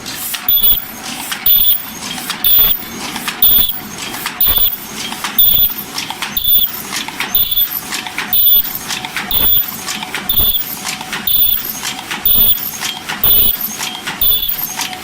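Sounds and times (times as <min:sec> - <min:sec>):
continuous machine noise: 0:00.0 - 0:15.0
rhythmic mechanical clatter: 0:00.0 - 0:15.0.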